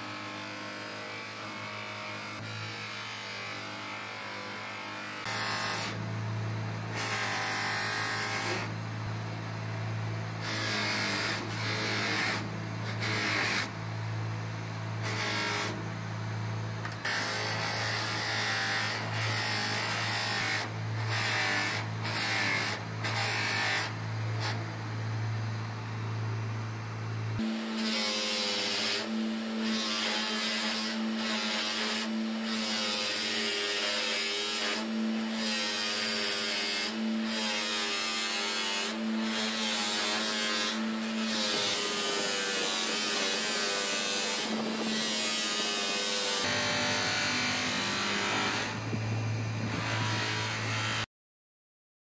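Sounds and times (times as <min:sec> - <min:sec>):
buffing machine motor hum: 0:05.3 - 0:51.0.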